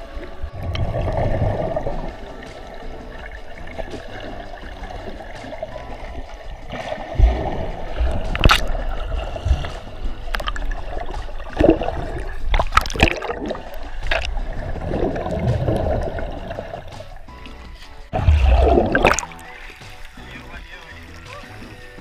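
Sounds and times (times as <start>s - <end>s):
underwater water sloshing and gurgling: 0.0s - 21.7s.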